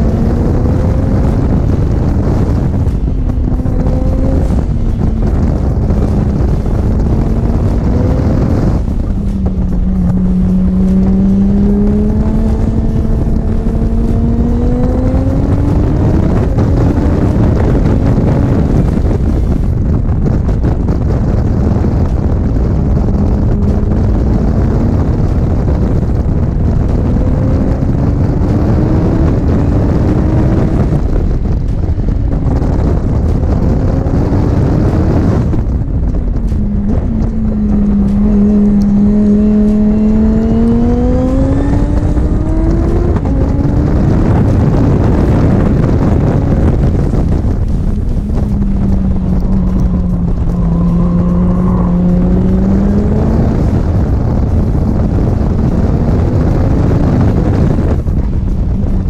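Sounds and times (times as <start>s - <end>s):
sports car engine revving: 0.0s - 59.0s.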